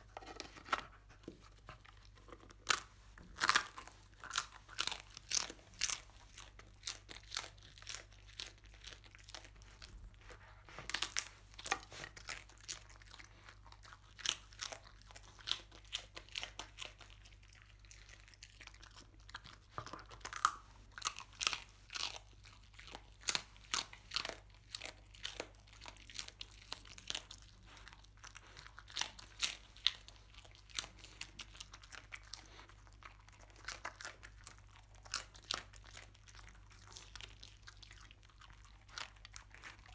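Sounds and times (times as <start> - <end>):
dog chewing crunchy food: 0.0 - 39.9.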